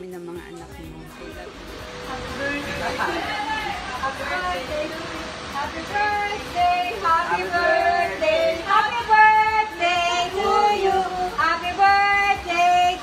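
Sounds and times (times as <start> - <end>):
high voice singing: 2.1 - 13.0.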